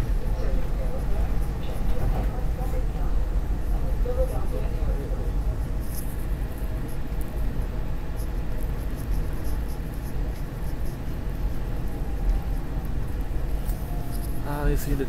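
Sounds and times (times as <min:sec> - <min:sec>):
subway car rumble: 0:00.0 - 0:09.0, 0:09.9 - 0:15.0.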